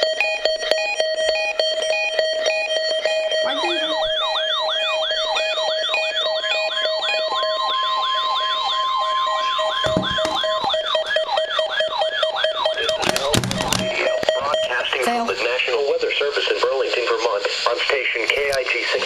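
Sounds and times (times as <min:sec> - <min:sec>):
electronic alert siren: 0:00.0 - 0:16.0
steady warning tone: 0:00.2 - 0:16.3.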